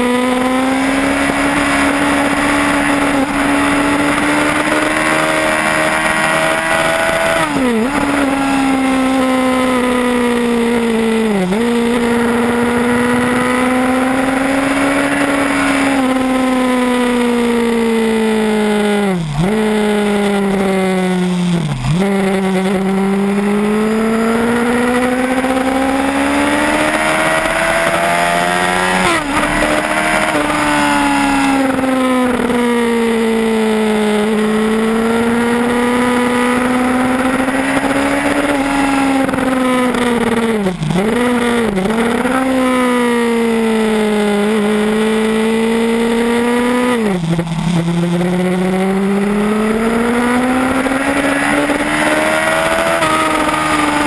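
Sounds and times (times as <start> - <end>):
motorcycle engine accelerating hard: 0.0 - 54.0.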